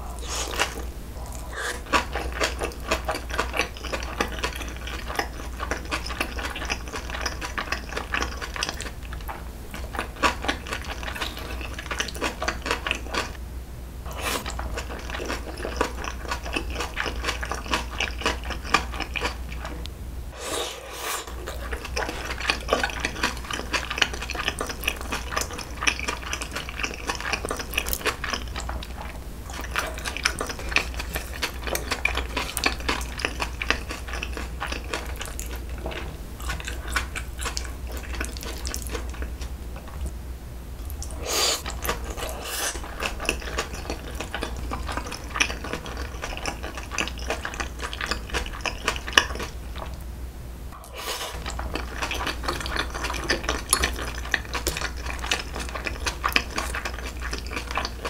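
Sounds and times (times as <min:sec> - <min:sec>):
wet chewing: 0:00.0 - 0:13.4, 0:14.1 - 0:19.9, 0:21.2 - 0:40.1, 0:40.8 - 0:50.0, 0:50.8 - 0:58.0.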